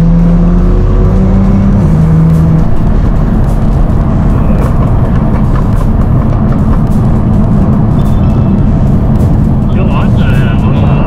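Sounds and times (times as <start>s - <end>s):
background music: 0.0s - 11.0s
car engine running: 0.0s - 11.0s.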